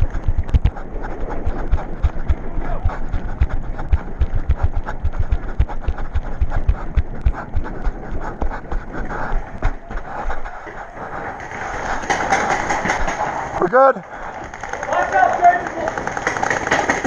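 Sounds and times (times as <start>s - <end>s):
person panting heavily: 0.0s - 14.7s
running footfalls: 0.0s - 17.0s.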